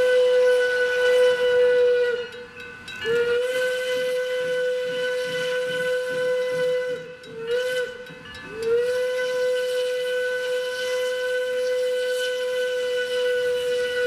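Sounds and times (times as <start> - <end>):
steam locomotive whistle: 0.0 - 14.0.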